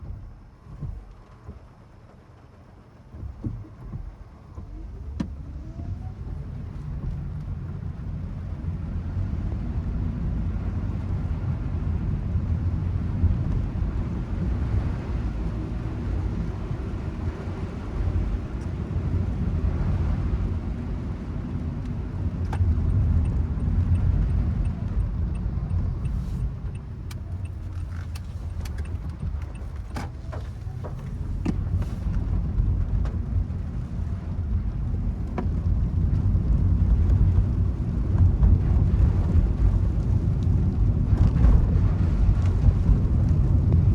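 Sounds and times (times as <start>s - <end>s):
car road rumble inside cabin: 0.0s - 43.9s.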